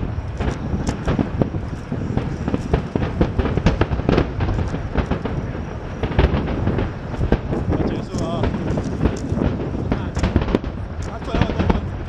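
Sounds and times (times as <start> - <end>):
fireworks bangs: 0.0 - 12.0
rumble of booms and crackle: 0.0 - 12.0.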